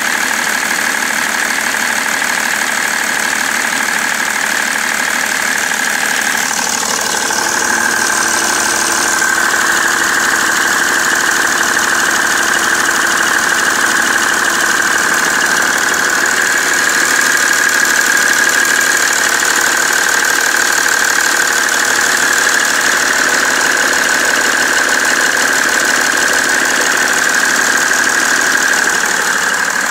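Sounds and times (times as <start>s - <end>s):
diesel engine knocking: 0.0s - 29.9s.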